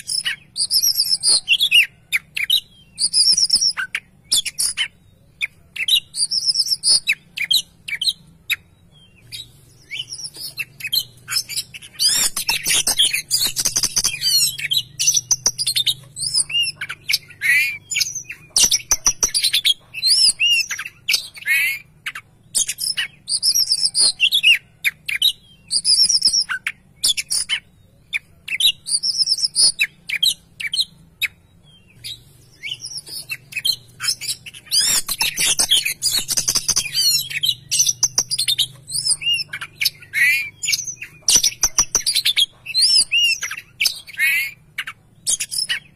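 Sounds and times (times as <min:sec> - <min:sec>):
bird singing whistled phrases: 0:00.0 - 0:08.6, 0:09.4 - 0:21.9, 0:22.5 - 0:45.9.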